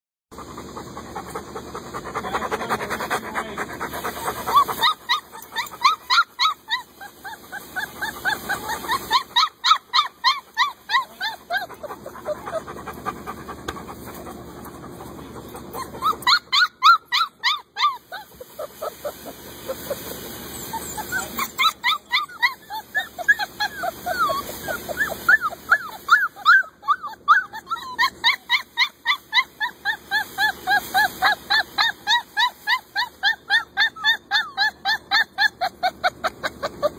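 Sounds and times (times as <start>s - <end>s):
puppies yelping and whining: 0.4s - 36.9s.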